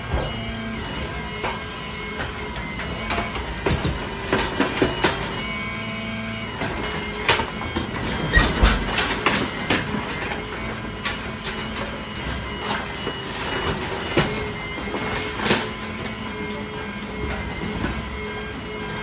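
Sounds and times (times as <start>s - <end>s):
machinery hum: 0.0s - 19.0s
debris cracking and snapping: 1.4s - 5.7s, 6.3s - 19.0s.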